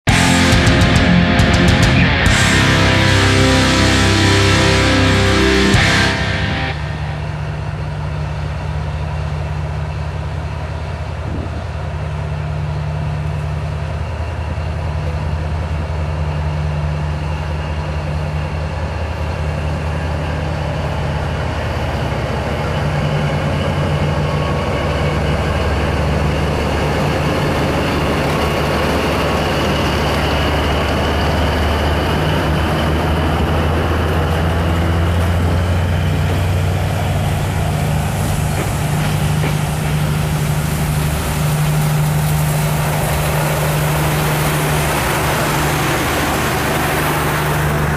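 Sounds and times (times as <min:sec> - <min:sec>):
train rolling on rails: 0:00.0 - 0:47.9
locomotive engine humming: 0:00.1 - 0:47.9.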